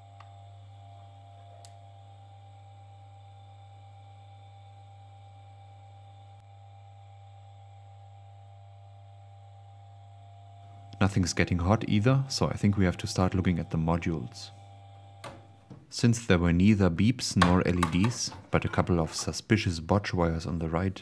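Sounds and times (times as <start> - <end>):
electrical hum with fan: 0.0 - 21.0.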